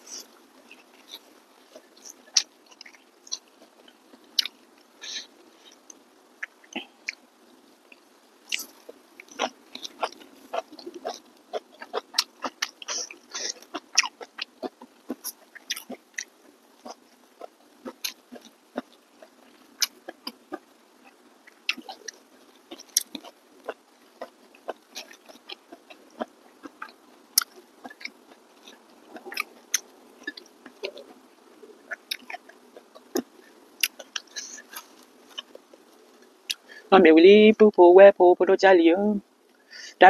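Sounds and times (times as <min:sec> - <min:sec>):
person chewing and lip-smacking: 0:00.0 - 0:07.2, 0:07.9 - 0:36.8.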